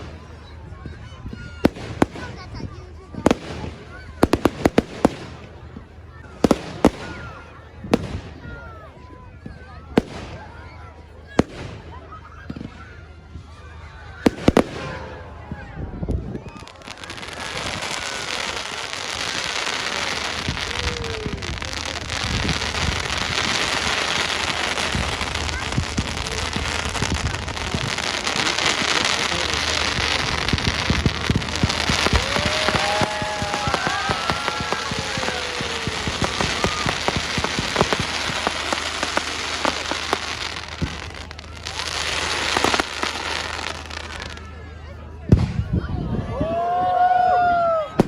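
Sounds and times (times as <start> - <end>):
fireworks crackling: 0.0 - 8.7, 9.4 - 45.7.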